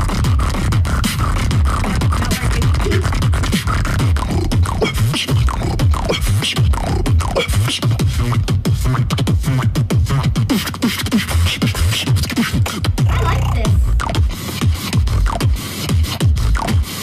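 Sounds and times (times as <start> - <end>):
beatboxing: 0.0 - 17.0.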